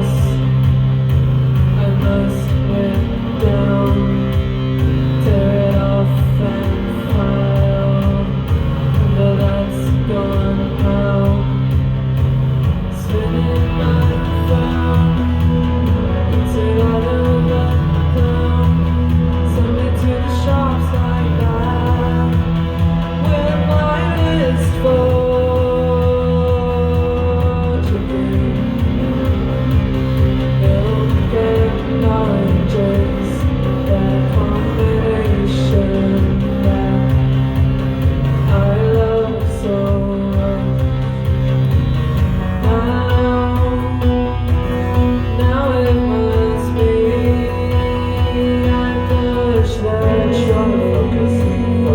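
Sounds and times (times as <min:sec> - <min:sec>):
bass line: 0:00.0 - 0:51.9
guitar: 0:00.0 - 0:51.9
person singing: 0:00.0 - 0:51.9.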